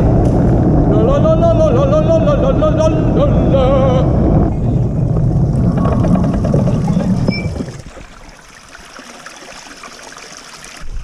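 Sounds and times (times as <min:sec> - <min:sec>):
wind and road rumble: 0:00.0 - 0:09.0.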